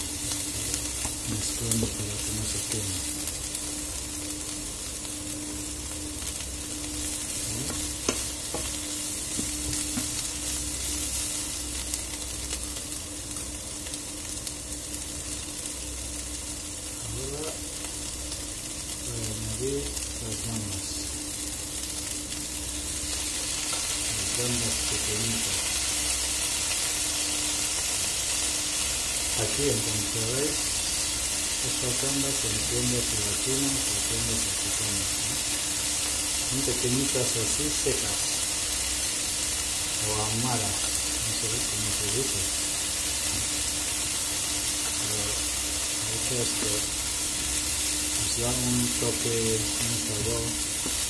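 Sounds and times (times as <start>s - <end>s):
vegetables sizzling in oil: 0.0s - 51.0s.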